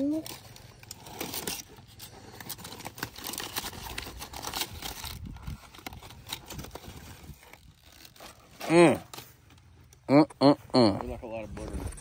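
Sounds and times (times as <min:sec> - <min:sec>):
foil crinkling and rustling: 0:00.0 - 0:10.0.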